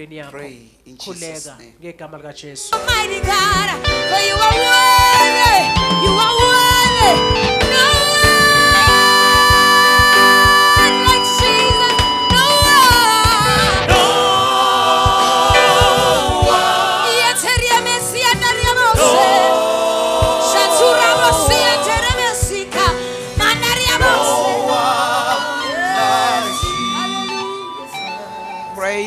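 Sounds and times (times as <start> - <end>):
gospel group singing: 2.9 - 29.0.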